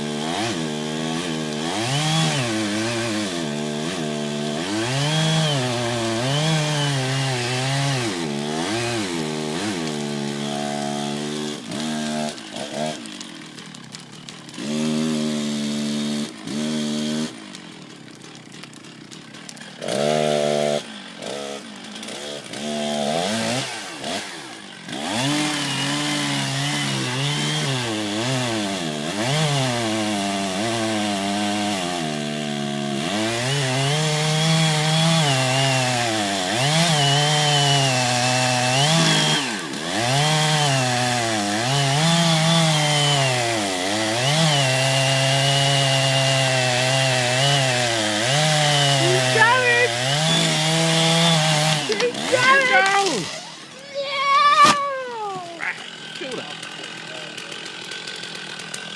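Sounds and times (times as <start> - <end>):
chainsaw engine revving: 0.0 - 58.9.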